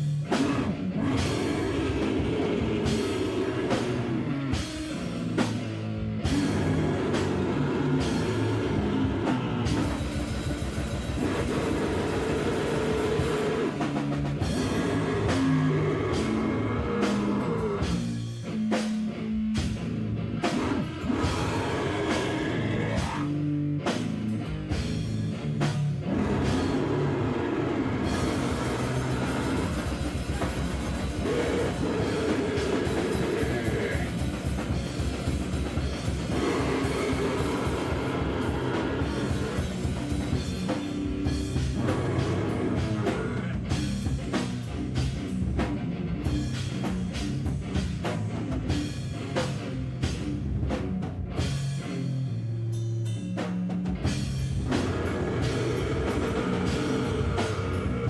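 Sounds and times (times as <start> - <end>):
drum kit hit rapidly: 0.0 - 52.0, 53.5 - 58.0
live rock band playing: 0.0 - 58.0.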